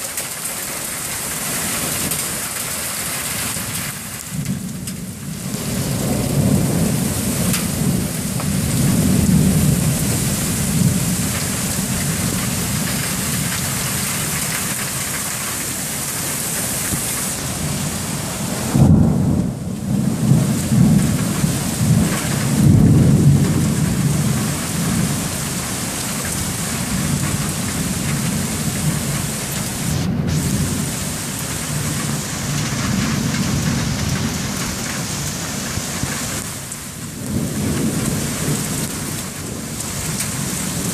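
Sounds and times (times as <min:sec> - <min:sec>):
torrential rain pouring: 0:00.0 - 0:40.9
rolling thunder rumbles: 0:03.5 - 0:40.9.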